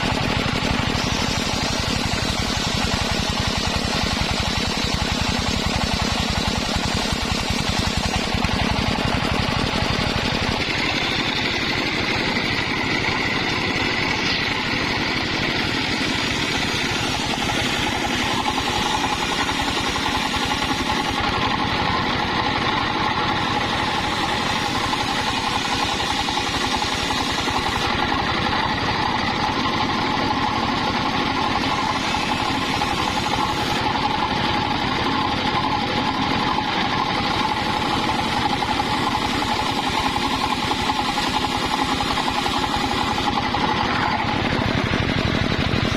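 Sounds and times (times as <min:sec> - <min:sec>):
circular saw cutting wood: 0:00.0 - 0:45.9
engine pulse: 0:00.0 - 0:45.9.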